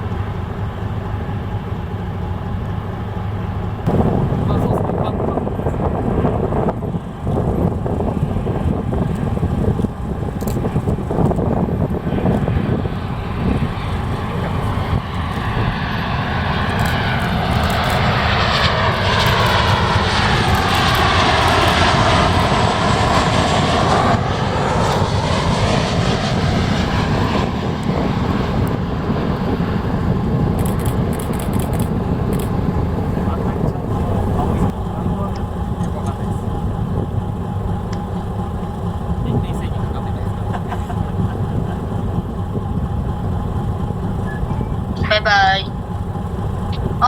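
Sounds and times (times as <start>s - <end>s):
jet airliner passing overhead: 0.0s - 47.0s.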